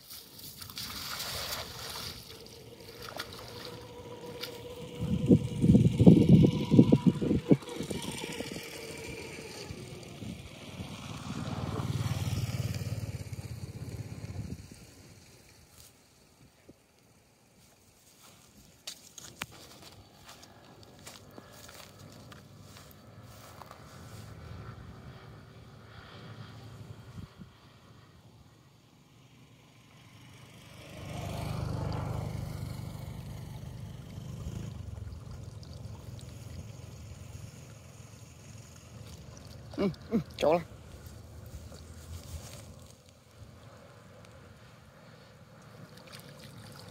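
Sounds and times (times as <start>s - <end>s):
distant small engine droning: 0.6s - 17.6s, 19.5s - 46.9s.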